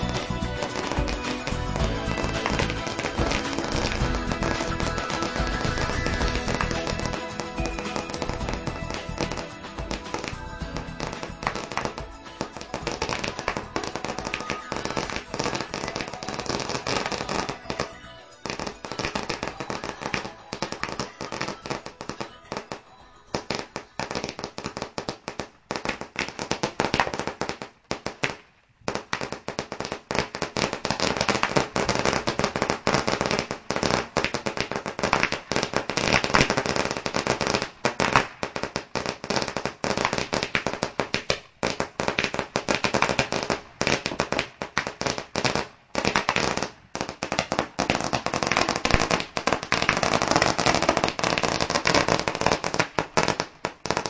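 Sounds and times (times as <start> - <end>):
fireworks crackling and banging: 0.0 - 54.0.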